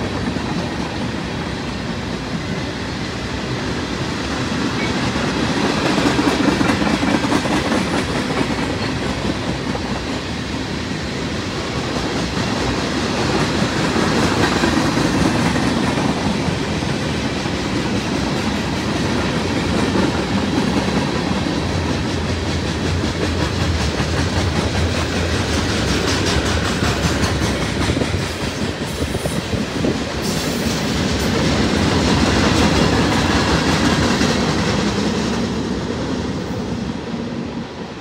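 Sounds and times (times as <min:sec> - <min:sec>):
freight train wheels on rails: 0:00.0 - 0:38.0.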